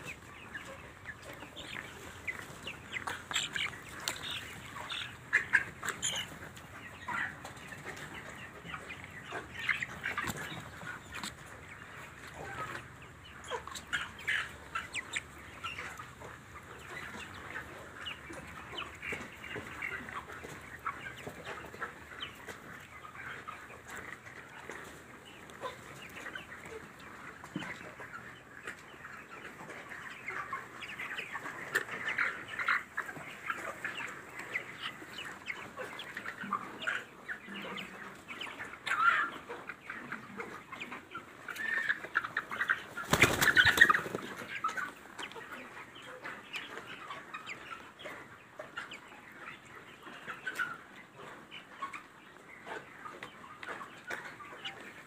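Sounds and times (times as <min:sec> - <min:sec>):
chickens clucking and cheeping: 0:00.0 - 0:55.0.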